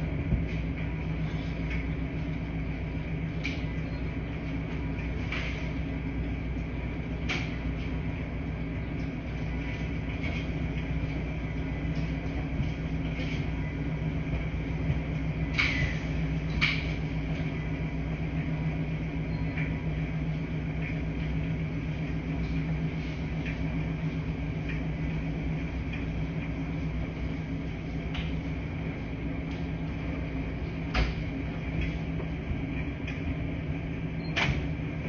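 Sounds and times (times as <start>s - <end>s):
washing machines humming: 0.0s - 35.0s.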